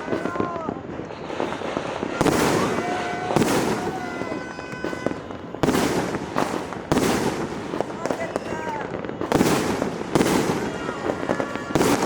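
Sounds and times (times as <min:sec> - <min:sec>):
firecrackers crackling: 0:00.0 - 0:12.0
firework bangs: 0:00.0 - 0:12.0
whistling fireworks: 0:00.0 - 0:12.0.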